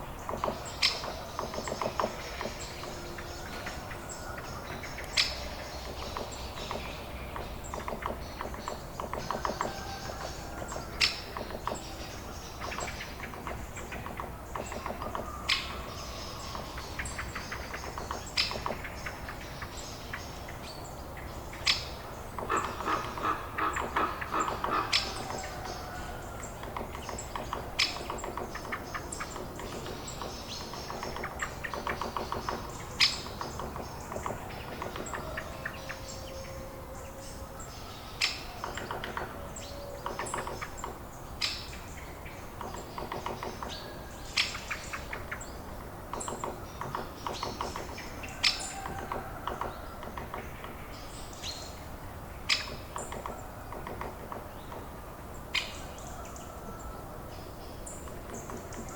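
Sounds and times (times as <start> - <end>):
birds chirping and trilling: 0.0 - 58.9
low background noise: 0.0 - 58.9.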